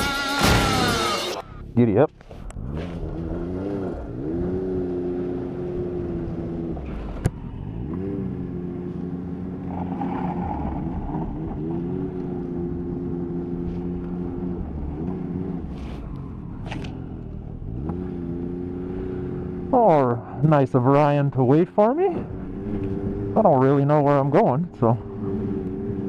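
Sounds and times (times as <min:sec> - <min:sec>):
snowmobile engine revving: 0:00.0 - 0:26.0.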